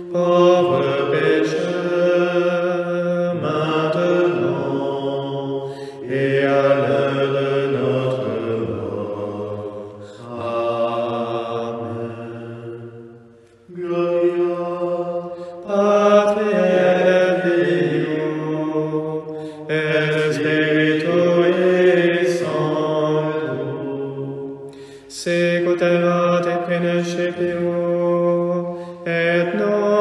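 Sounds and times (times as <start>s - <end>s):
men chanting a sung prayer: 0.0s - 12.7s, 13.7s - 24.4s, 25.1s - 30.0s.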